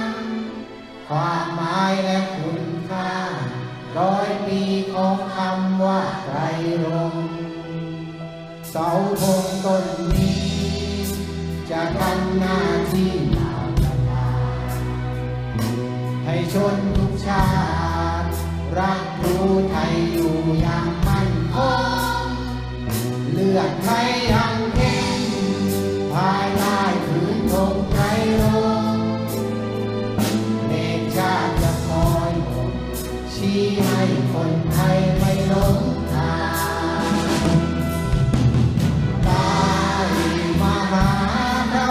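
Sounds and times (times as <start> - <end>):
children's choir singing: 0.0 - 41.9
orchestra accompanying: 0.0 - 41.9.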